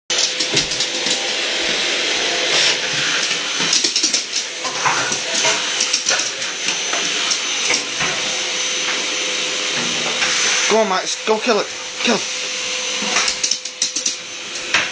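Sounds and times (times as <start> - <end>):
vacuum cleaner running: 0.1 - 14.9.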